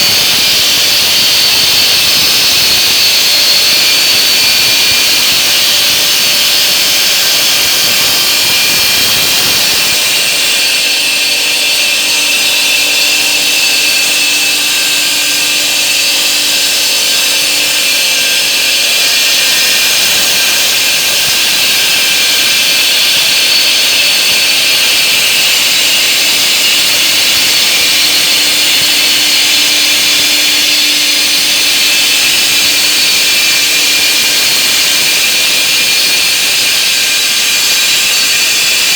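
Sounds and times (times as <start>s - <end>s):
saw blade cutting stone: 0.0s - 38.9s.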